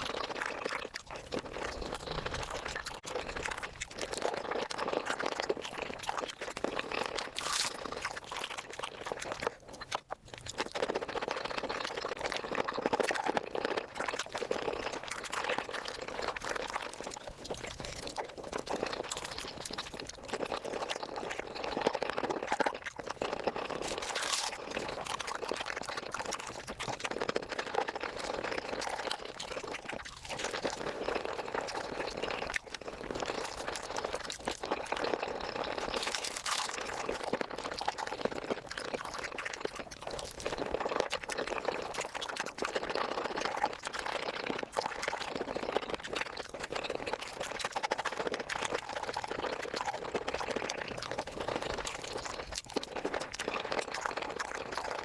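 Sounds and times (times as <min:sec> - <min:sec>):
chewing and crunching: 0:00.0 - 0:55.0.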